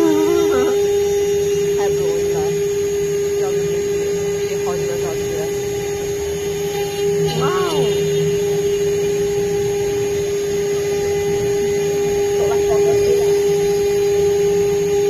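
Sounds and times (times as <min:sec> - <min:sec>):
engraving machine spindle whine: 0:00.0 - 0:15.0.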